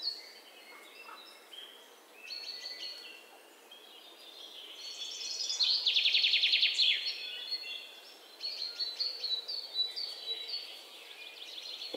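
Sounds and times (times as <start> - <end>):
birds singing: 0.0 - 11.9.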